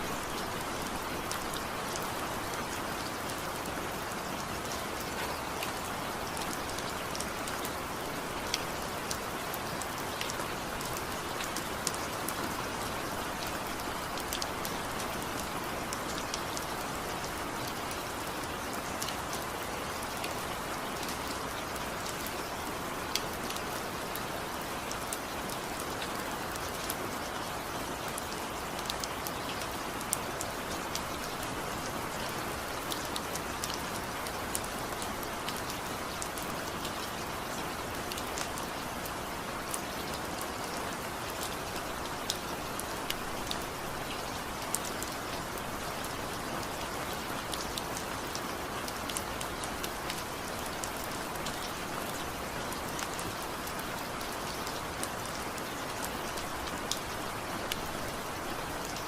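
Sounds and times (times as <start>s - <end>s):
raindrops pattering on a surface: 0.0s - 59.0s
steady rain falling: 0.0s - 59.0s.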